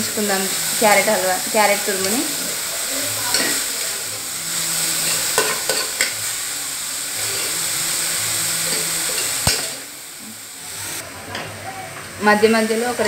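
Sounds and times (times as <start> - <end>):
carrot sizzling in pot: 0.0 - 11.4, 12.0 - 13.0.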